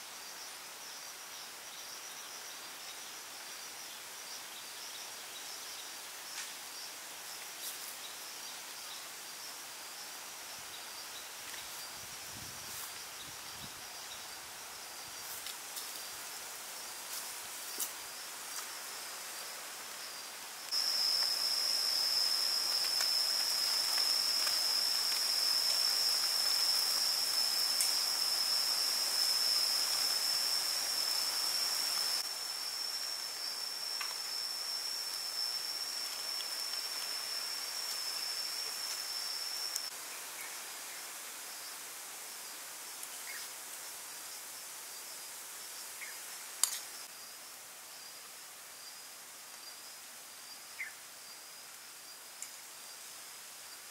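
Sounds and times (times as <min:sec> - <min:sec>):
insect chorus chirring: 0:00.0 - 0:53.9.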